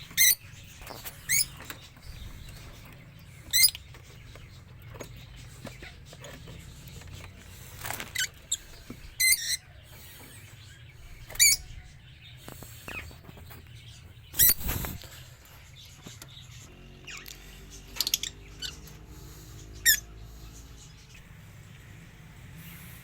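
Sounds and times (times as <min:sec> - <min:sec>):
birds chirping shrilly: 0:00.0 - 0:23.0.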